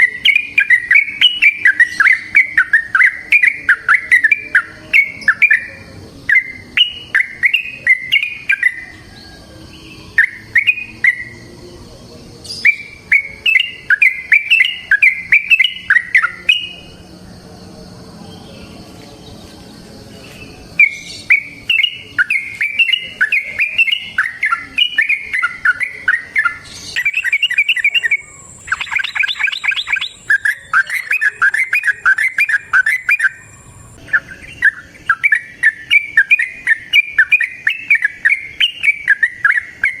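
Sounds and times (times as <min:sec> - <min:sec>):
bird rapid chirping song: 0:00.0 - 0:17.2, 0:18.4 - 0:40.0.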